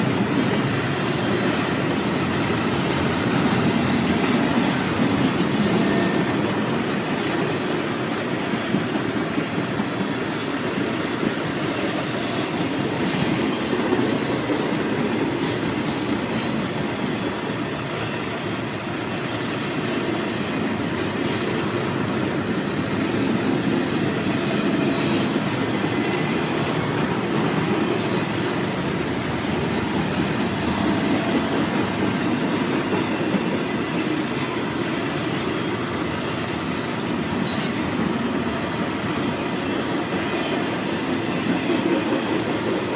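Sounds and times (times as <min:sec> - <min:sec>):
steel wheels rumbling on rail: 0:00.0 - 0:42.9
train cars clicking and clanking: 0:00.0 - 0:42.9.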